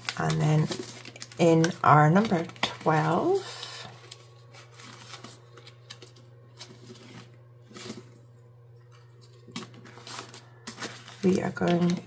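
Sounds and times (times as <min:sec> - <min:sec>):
plastic binder and cards rustling: 0:00.0 - 0:12.0
steady low hum: 0:00.0 - 0:12.0.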